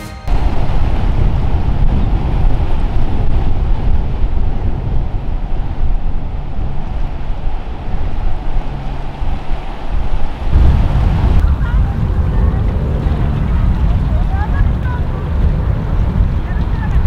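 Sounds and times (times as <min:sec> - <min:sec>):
breaking surf: 0:00.3 - 0:17.0
motor yacht engine: 0:00.3 - 0:17.0
wind buffeting microphone: 0:00.3 - 0:17.0.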